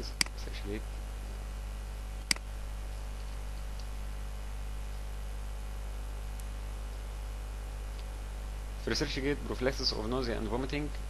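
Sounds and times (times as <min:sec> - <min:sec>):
low electrical hum with hiss: 0:00.0 - 0:11.0.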